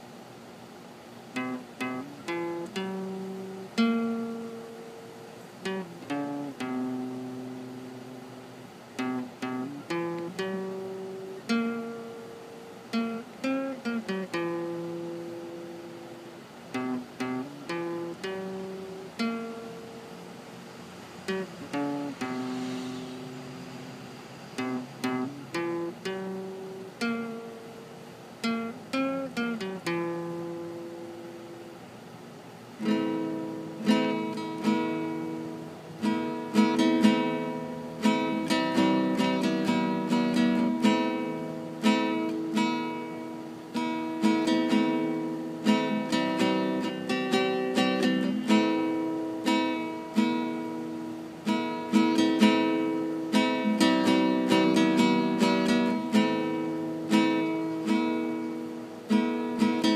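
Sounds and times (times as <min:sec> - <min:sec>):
classical acoustic guitar: 0:00.0 - 0:59.9.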